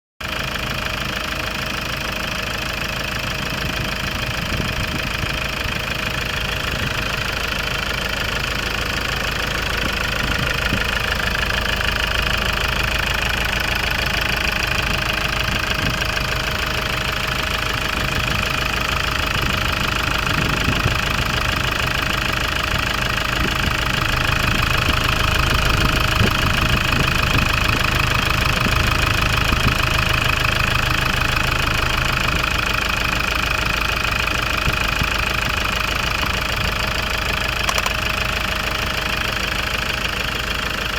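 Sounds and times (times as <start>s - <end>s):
engine running steadily: 0.2s - 40.9s.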